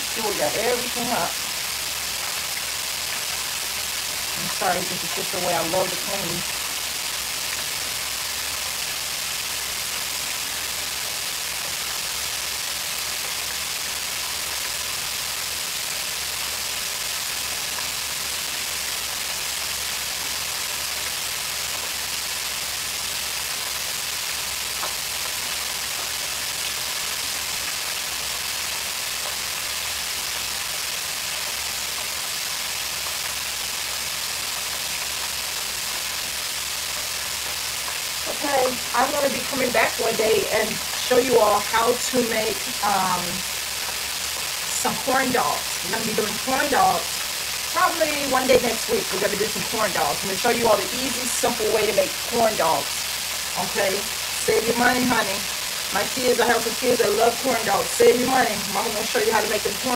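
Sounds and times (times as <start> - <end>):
oil sizzling in deep fryer: 0.0 - 59.9.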